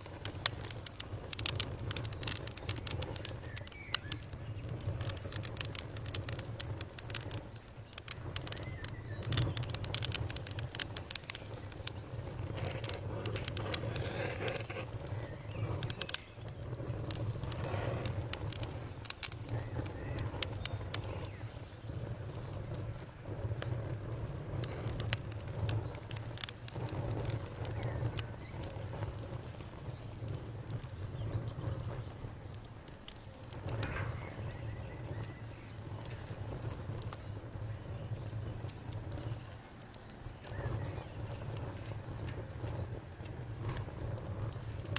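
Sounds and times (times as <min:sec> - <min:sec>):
faint cricket trill: 0:00.0 - 0:44.9
wood fire crackling and popping: 0:00.0 - 0:44.9.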